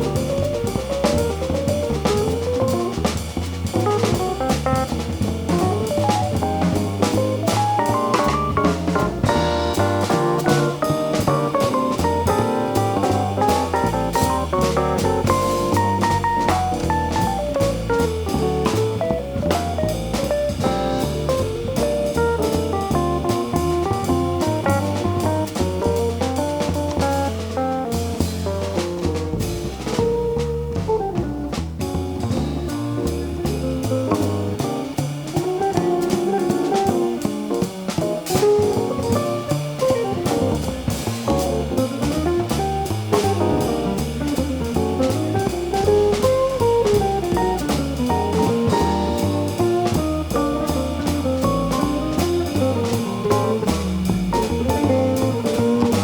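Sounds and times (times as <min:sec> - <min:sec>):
drum kit: 0:00.0 - 0:56.0
guitar: 0:00.0 - 0:56.0
jazz band playing: 0:00.0 - 0:56.0
walking bass: 0:00.0 - 0:56.0.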